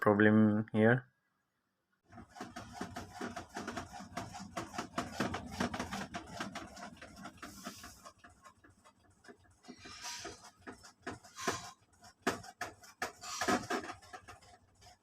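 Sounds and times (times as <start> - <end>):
washing machine clicking and rattling: 2.1 - 15.0.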